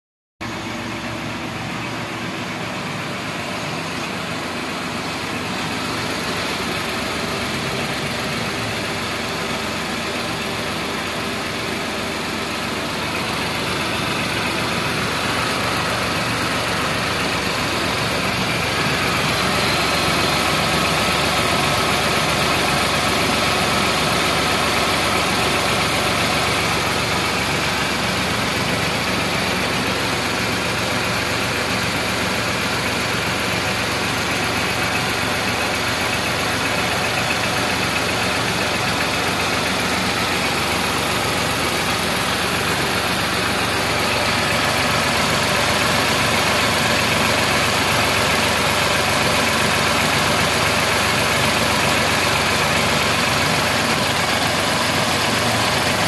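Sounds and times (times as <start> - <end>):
car engine idling: 0.4 - 56.0.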